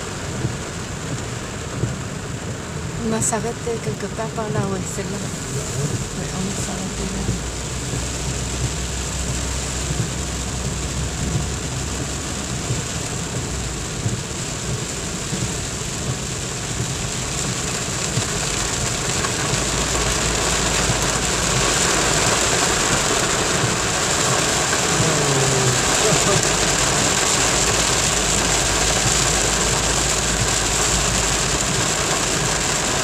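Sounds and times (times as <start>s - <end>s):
car engine low hum: 0.0s - 33.0s
heavy rain on car roof: 0.0s - 33.0s.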